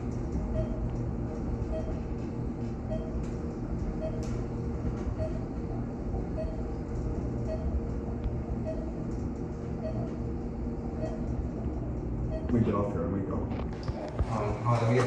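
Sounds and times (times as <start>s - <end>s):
elevator car rumbling: 0.0s - 15.0s.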